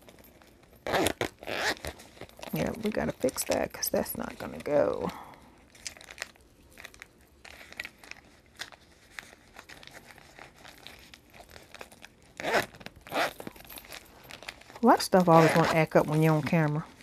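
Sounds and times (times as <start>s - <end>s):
plastic wrappers crinkling: 0.0s - 17.0s.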